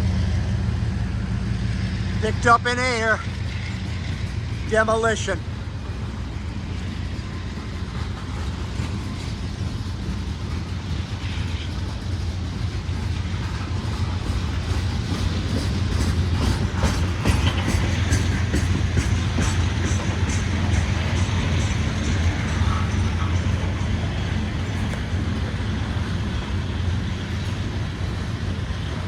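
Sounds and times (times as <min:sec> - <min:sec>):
freight train rumbling past: 0:00.0 - 0:29.0
wheels clicking over rails: 0:05.4 - 0:29.0.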